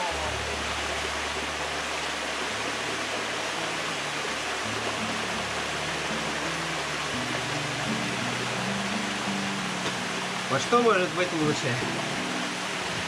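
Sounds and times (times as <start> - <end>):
flowing river water: 0.0 - 13.0
slow low sustained music: 0.0 - 13.0.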